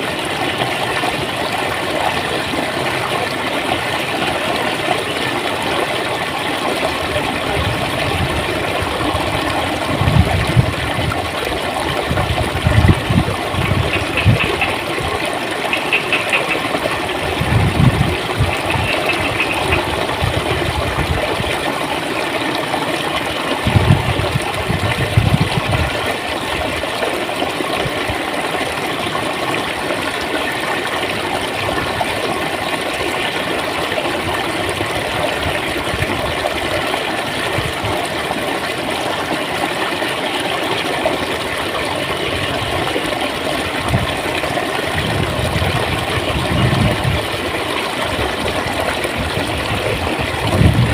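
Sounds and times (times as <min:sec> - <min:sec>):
stream water gurgling: 0:00.0 - 0:50.9.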